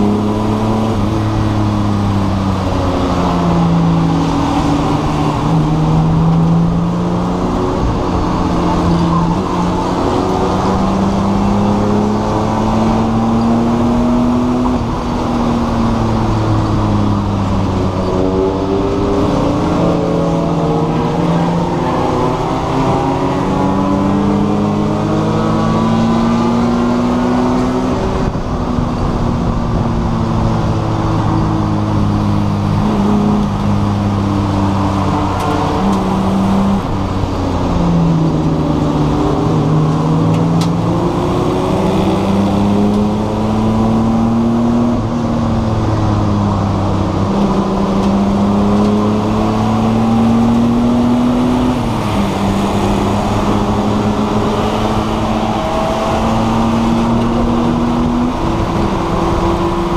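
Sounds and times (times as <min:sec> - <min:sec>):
race car engine: 0:00.0 - 0:59.9
road and wind noise: 0:00.0 - 0:59.9.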